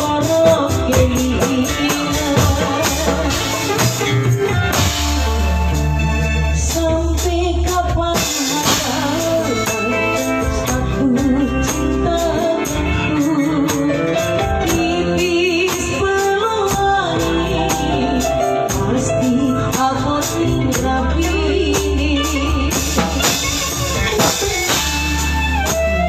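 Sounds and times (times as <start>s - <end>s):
recorded song with singer: 0.0s - 26.0s.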